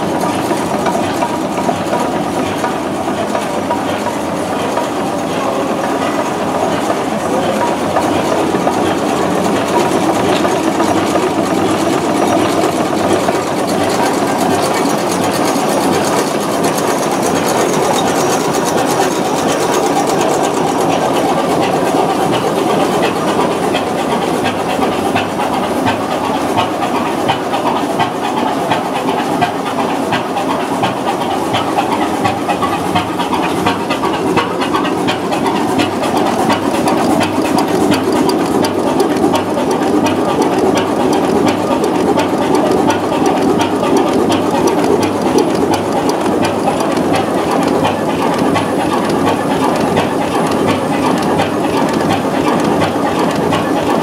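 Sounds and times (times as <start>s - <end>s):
diesel engine running: 0.0s - 54.0s
valve gear clatter: 0.0s - 54.0s.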